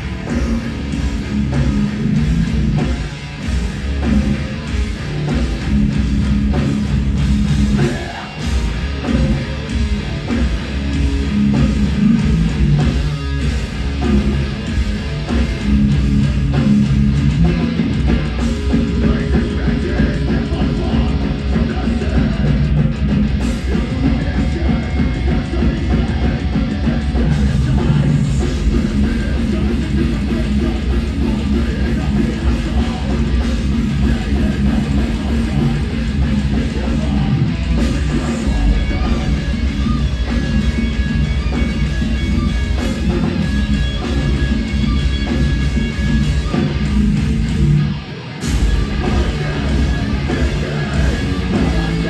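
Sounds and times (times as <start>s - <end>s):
heavy metal band playing: 0.0s - 52.0s.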